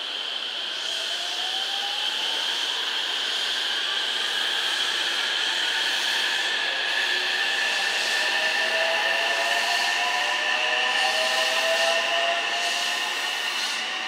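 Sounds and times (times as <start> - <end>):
electric train hissing and whining: 0.0 - 14.0.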